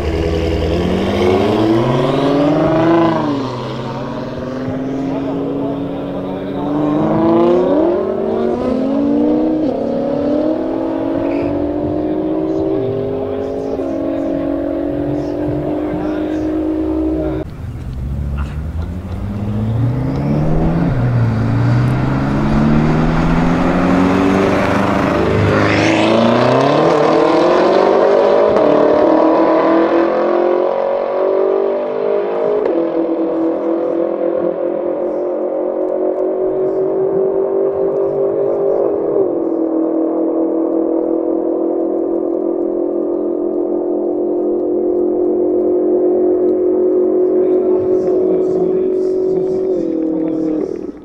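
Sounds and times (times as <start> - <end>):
racing car engines at full throttle: 0.0 - 51.0.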